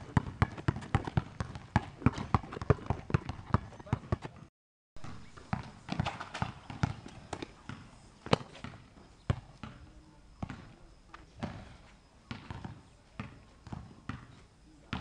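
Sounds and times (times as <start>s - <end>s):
basketball bouncing on asphalt: 0.0s - 15.0s.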